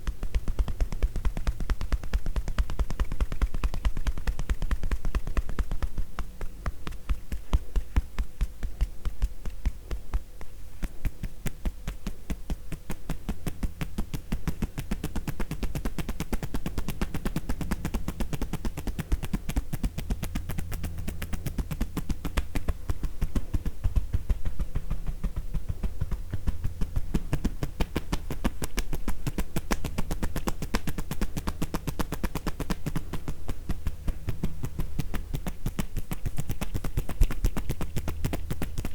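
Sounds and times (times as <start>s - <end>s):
hands tapping on body: 0.0s - 38.9s.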